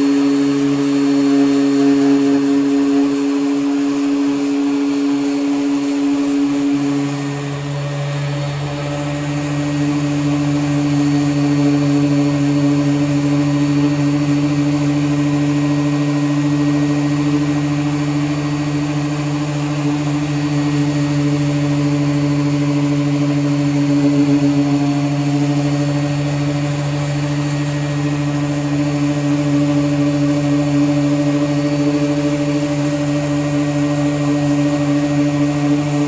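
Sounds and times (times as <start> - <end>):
electric power sander running: 0.0 - 36.0.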